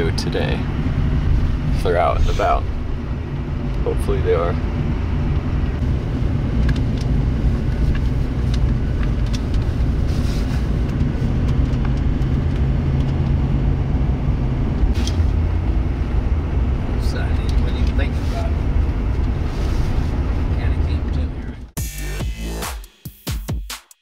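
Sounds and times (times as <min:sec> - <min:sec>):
engine and road rumble: 0:00.0 - 0:22.6.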